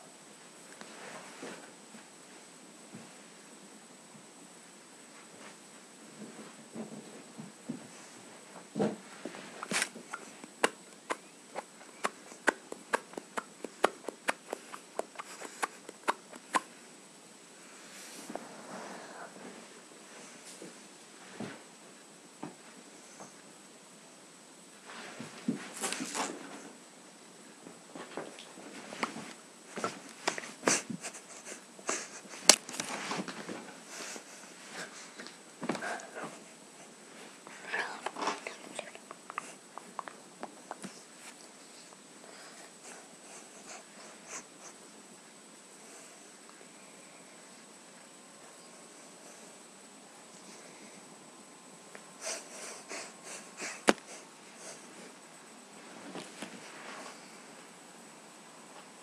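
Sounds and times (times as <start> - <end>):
faint high-pitched whine: 0.0 - 59.0.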